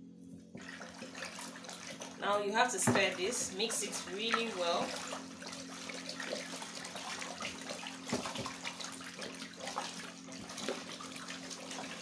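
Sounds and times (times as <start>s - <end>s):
water sloshing in plastic basin: 0.5s - 12.0s.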